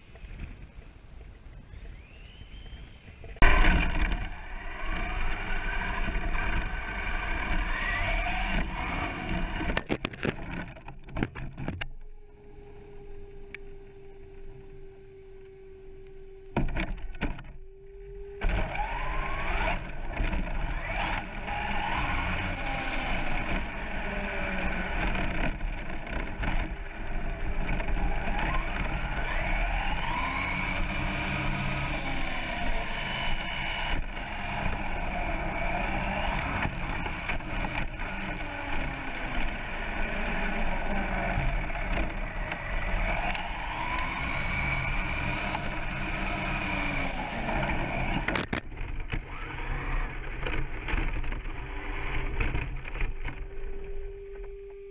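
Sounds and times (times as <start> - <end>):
tyre and chassis noise on tarmac: 0.0 - 54.9
electric motor whine: 1.9 - 54.9.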